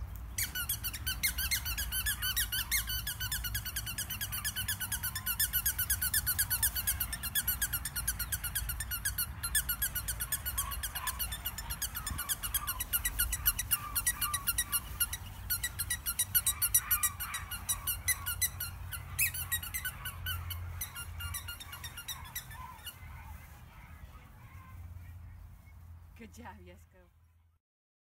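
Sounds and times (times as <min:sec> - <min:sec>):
fast high chirping: 0:00.4 - 0:23.9
puppies squeaking and whimpering: 0:00.4 - 0:24.8.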